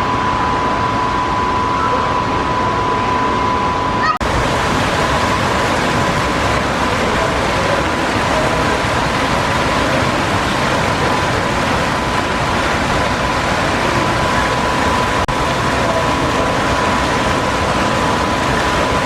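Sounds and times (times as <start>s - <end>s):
loud steady rushing noise: 0.0s - 19.0s.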